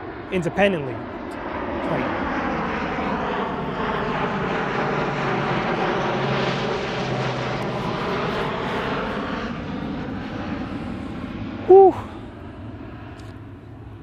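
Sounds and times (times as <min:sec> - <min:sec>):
airplane flying overhead: 0:00.0 - 0:14.0.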